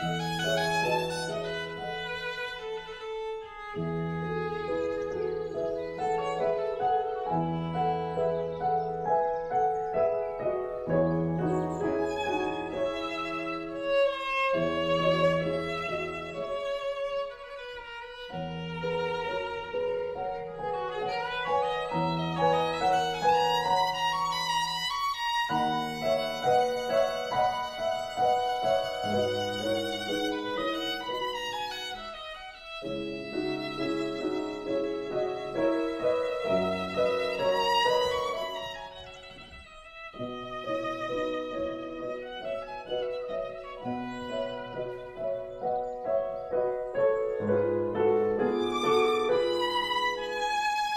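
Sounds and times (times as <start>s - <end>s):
piano: 0.0s - 50.9s
slow violin melody: 0.0s - 50.9s.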